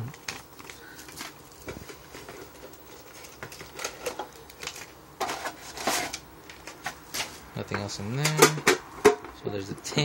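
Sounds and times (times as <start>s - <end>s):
plastic-wrapped cards rustling: 0.0s - 8.2s.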